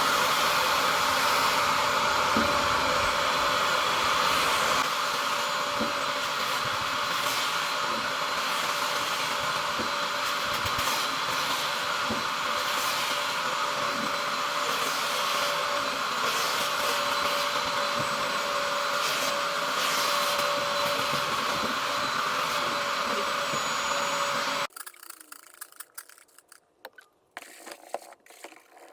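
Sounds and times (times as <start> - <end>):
vacuum motor whining: 0.0 - 24.7.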